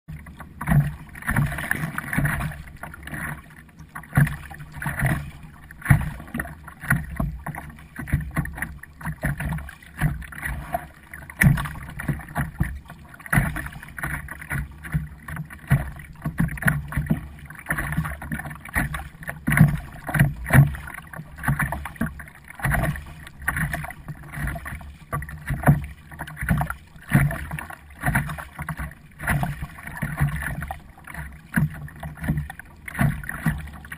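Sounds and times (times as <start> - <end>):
paddle splashing in water: 0.1 - 33.9.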